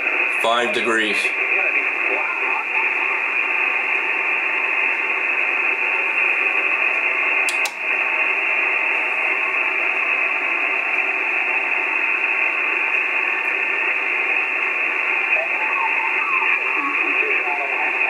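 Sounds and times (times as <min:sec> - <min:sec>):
faint steady tones: 0:00.0 - 0:18.0
radio receiver static hiss: 0:00.0 - 0:18.0.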